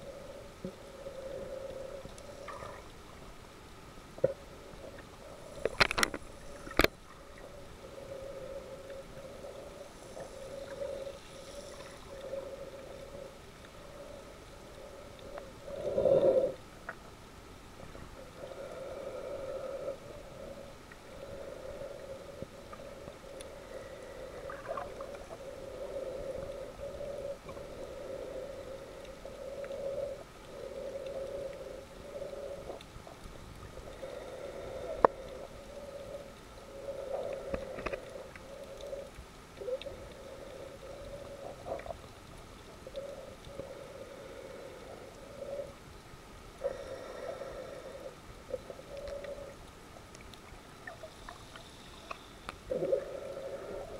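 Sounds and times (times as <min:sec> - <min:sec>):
wavering underwater hum: 0:00.0 - 0:53.9.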